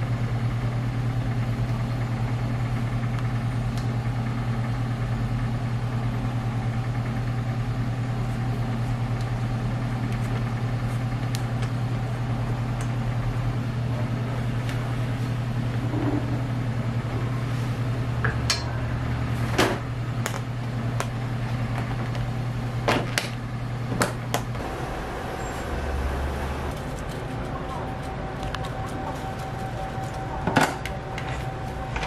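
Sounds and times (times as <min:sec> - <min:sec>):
kitchen equipment humming: 0:00.0 - 0:32.0.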